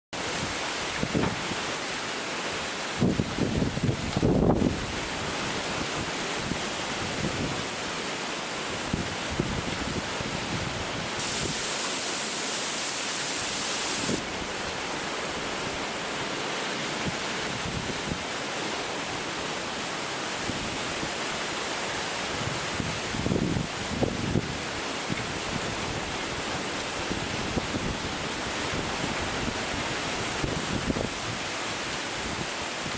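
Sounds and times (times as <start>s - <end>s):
strong wind rushing through bamboo: 0.2s - 32.9s.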